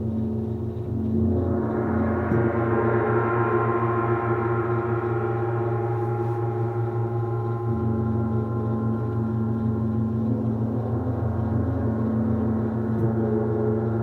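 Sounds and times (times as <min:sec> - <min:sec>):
steady low drone: 0:00.0 - 0:14.0
gong shimmering overtones: 0:00.9 - 0:14.0.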